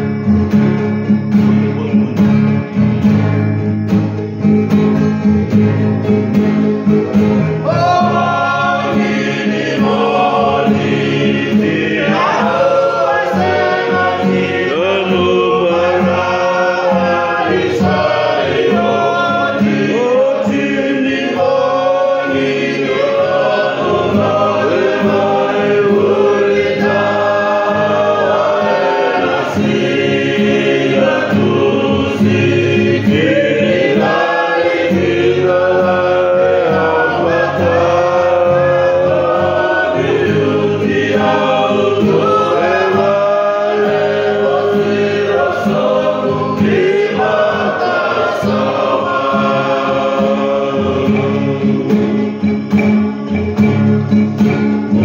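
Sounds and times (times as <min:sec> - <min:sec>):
group singing in harmony: 0:00.0 - 0:04.0, 0:06.0 - 0:55.0.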